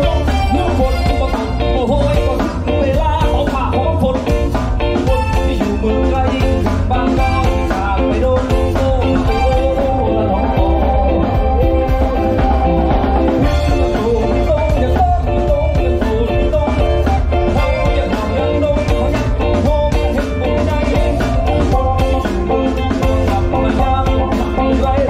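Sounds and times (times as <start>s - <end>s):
gliding melodic lead guitar: 0.0s - 25.0s
live rock band playing: 0.0s - 25.0s.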